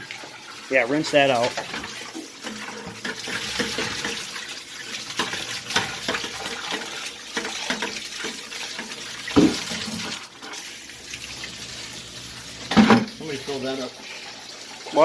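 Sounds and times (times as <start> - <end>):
water splashing from hose: 0.0 - 15.0.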